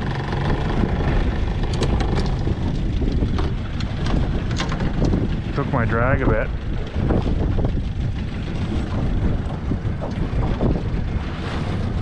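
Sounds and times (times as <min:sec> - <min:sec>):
outboard motor running: 0:00.0 - 0:12.0
wind buffeting microphone: 0:00.0 - 0:12.0.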